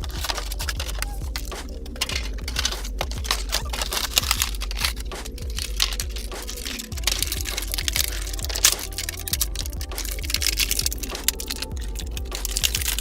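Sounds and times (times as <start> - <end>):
background music: 0.0 - 13.0
packaging crinkling and tearing: 0.0 - 13.0.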